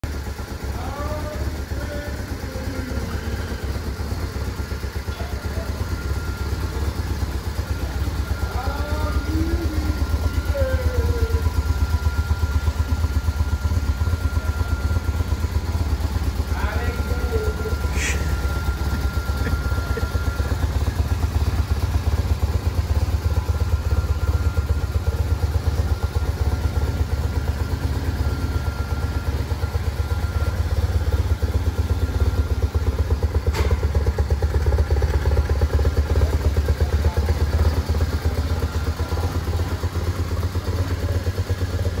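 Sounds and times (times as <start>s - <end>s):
motorcycle engine idling: 0.0s - 42.0s.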